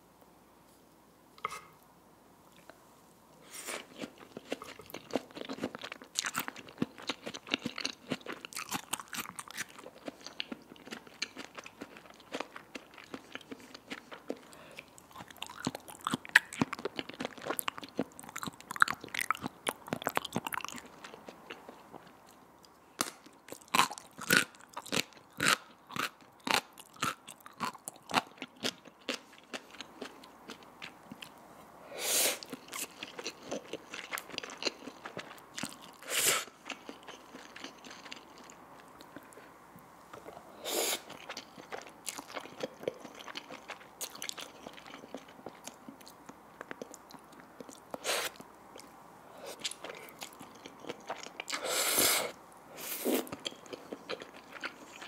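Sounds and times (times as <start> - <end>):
chewing and crunching food: 3.6 - 31.4, 32.4 - 51.8, 52.8 - 55.0.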